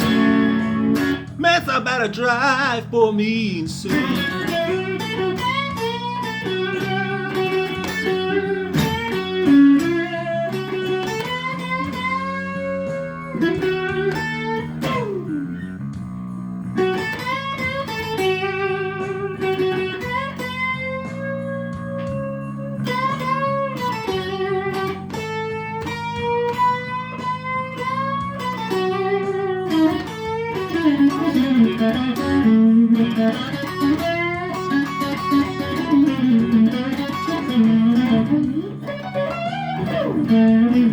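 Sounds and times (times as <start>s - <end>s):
electric guitar blues solo: 0.0s - 40.9s
low accompaniment: 0.0s - 40.9s.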